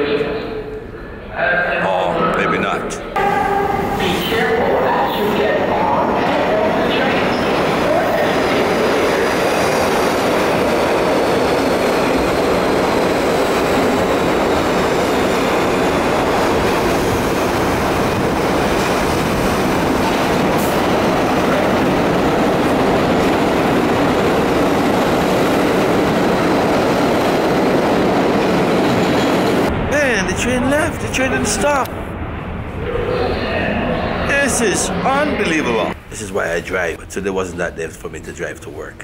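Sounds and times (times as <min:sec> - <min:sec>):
subway train rumble: 0:03.0 - 0:37.5.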